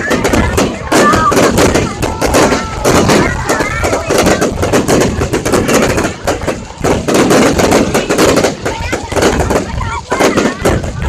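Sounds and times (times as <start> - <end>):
firework whistles: 0.0 - 11.0
fireworks bangs and crackles: 0.0 - 11.0.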